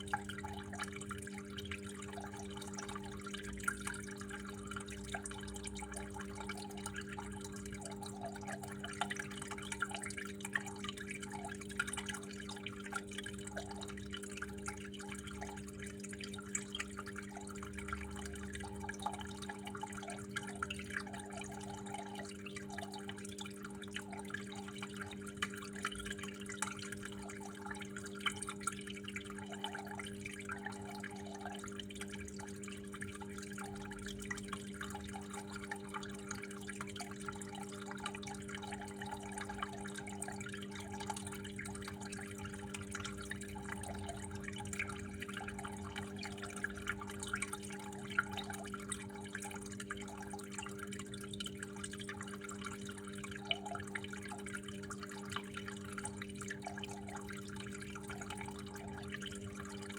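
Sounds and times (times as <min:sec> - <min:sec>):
water drips and splashes: 0:00.0 - 0:59.9
water flowing: 0:00.0 - 0:59.9.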